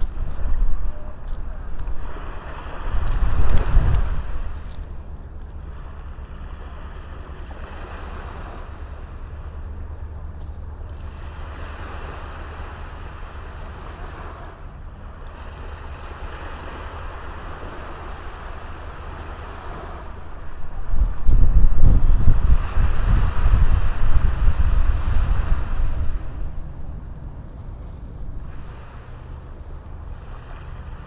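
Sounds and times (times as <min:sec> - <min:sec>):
small waves washing onto beach: 0:00.0 - 0:31.0
wind rumbling on microphone: 0:00.0 - 0:31.0.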